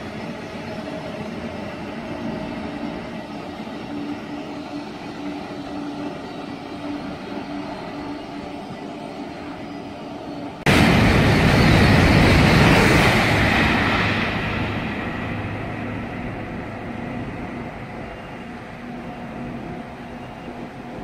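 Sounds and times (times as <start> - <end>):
high-speed train rushing past: 0.0 - 21.0.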